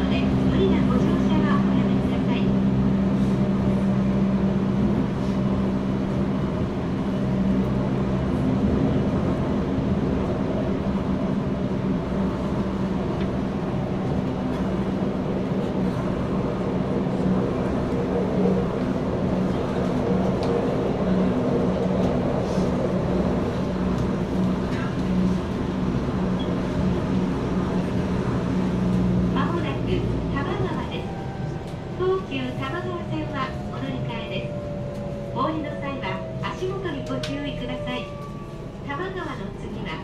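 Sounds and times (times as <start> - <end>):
subway car hum: 0.0 - 40.0
wheels rumbling on rail: 0.0 - 40.0.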